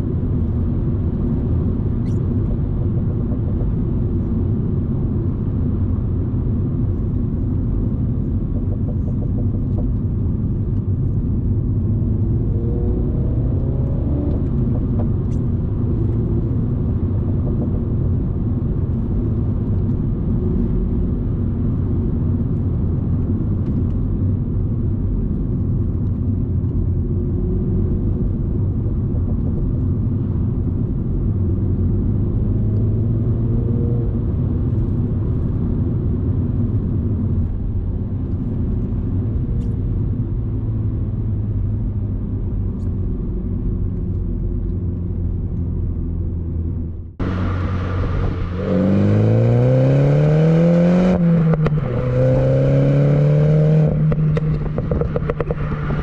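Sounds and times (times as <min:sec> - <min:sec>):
car engine cruising drone: 0:00.0 - 0:56.0
tyre and road noise: 0:00.0 - 0:56.0.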